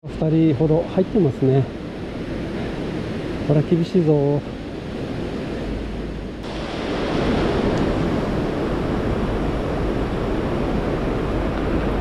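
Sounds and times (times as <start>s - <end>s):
river rushing: 0.1s - 12.0s
wind on microphone: 0.2s - 12.0s.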